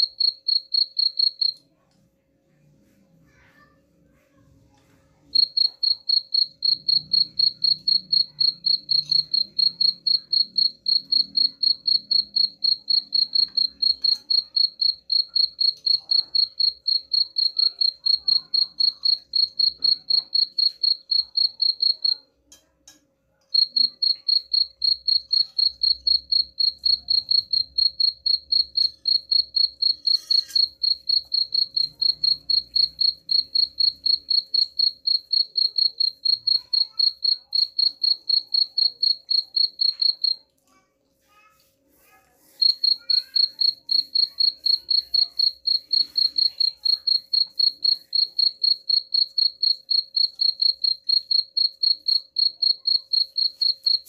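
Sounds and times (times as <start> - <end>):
cricket chirping: 0.0 - 1.6, 5.3 - 22.2, 23.5 - 40.4, 42.6 - 54.0.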